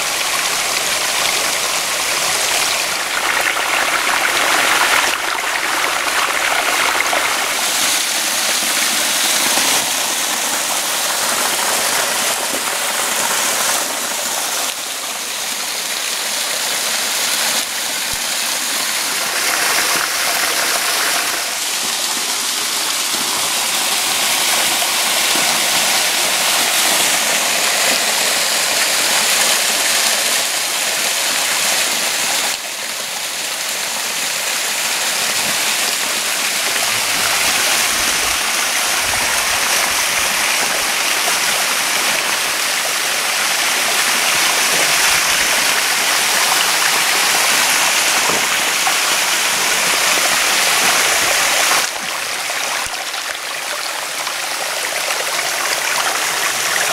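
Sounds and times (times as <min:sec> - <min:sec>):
waterfall rushing and splashing: 0:00.0 - 0:56.9.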